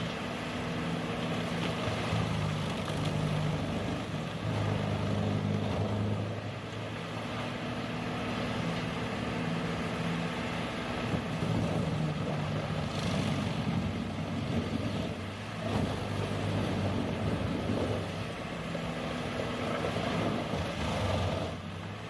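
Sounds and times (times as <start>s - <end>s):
heavy machine engine humming: 0.0s - 22.0s.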